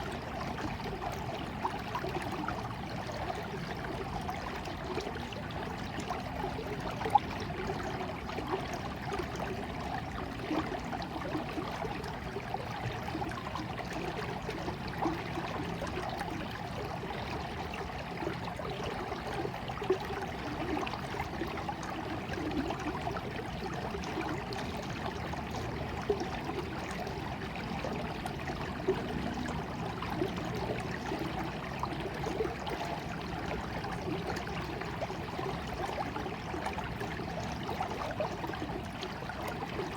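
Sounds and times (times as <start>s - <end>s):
water splashes: 0.0s - 39.9s.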